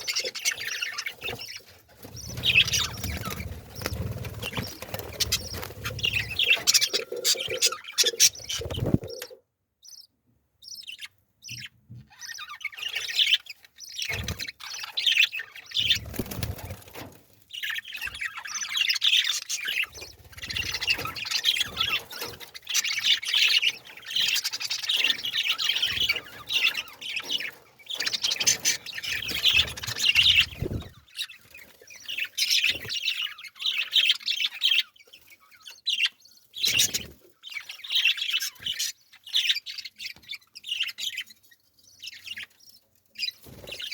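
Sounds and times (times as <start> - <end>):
small birds chirping and twittering: 0.0 - 43.9.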